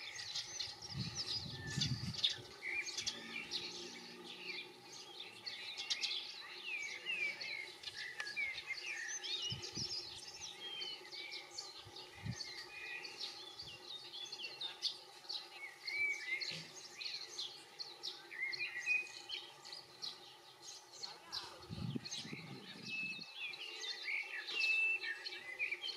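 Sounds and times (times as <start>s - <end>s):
goldfinches twittering: 0.0s - 25.9s.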